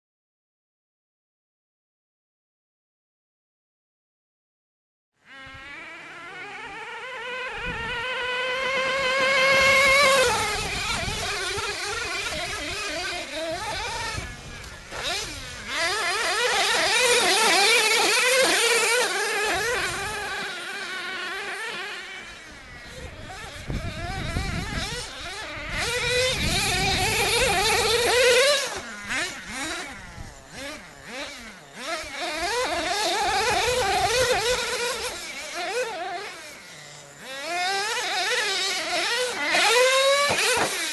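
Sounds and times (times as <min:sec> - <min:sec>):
model truck engine revving: 0:05.2 - 0:40.9.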